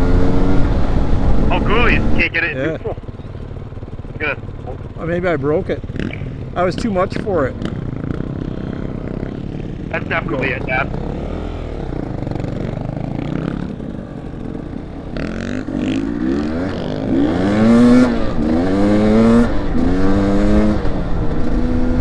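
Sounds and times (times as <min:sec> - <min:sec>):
dirt bike engine accelerating: 0:00.0 - 0:22.0.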